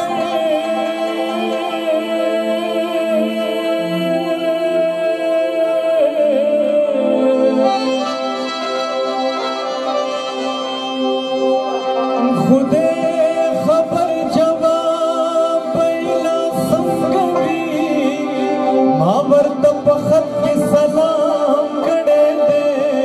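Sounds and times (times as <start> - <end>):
harmonium chords: 0.0 - 23.0
man singing: 0.0 - 23.0.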